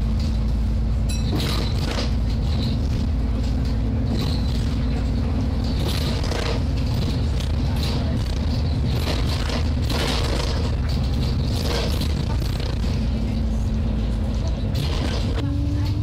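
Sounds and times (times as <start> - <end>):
bus body rattles: 0.0 - 16.0
bus engine drone: 0.0 - 16.0.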